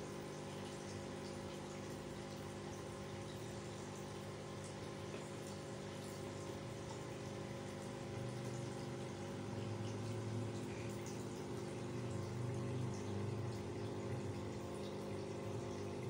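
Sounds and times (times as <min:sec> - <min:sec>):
aquarium pump humming: 0:00.0 - 0:16.0
water bubbling and trickling: 0:00.0 - 0:16.0.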